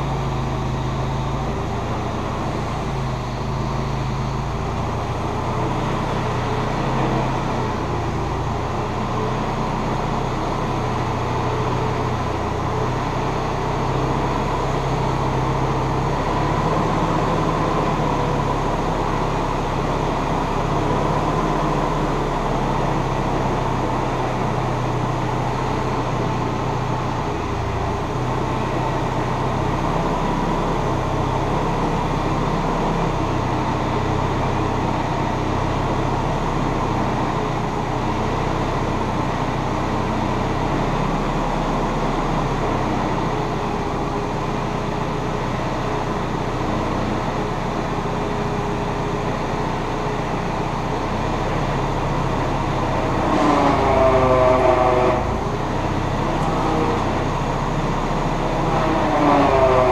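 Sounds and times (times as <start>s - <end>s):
forklift engine running: 0.0s - 59.9s.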